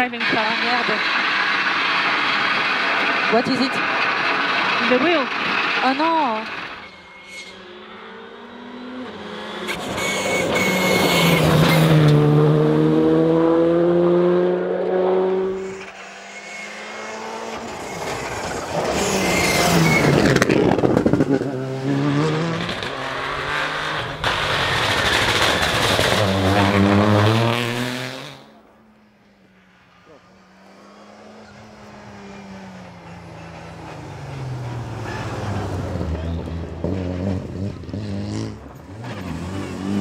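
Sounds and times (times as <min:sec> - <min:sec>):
rally cars passing at full throttle: 0:00.0 - 0:40.0.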